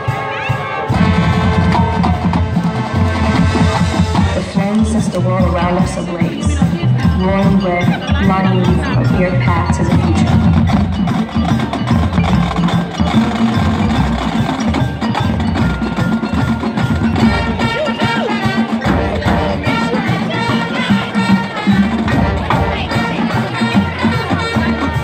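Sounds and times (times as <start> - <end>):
marching band playing: 0.0 - 25.0
marimbas playing: 0.0 - 25.0.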